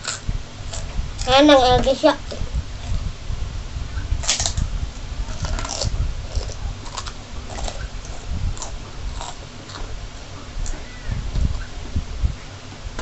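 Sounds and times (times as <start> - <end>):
wet chewing noises: 0.0 - 3.1, 4.2 - 11.7.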